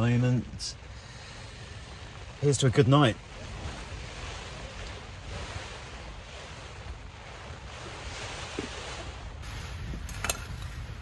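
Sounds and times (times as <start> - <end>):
gusting wind: 0.0 - 11.0.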